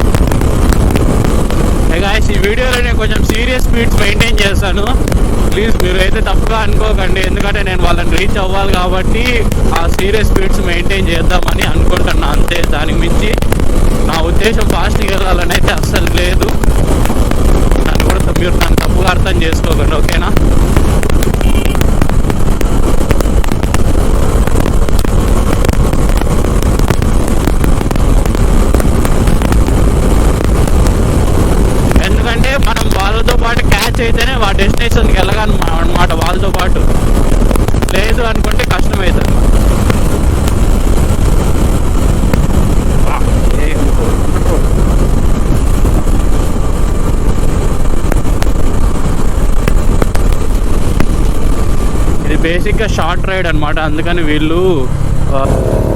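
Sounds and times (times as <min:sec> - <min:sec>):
motorcycle engine rumble: 0:00.0 - 0:55.9
wind rushing over microphone: 0:00.0 - 0:55.9.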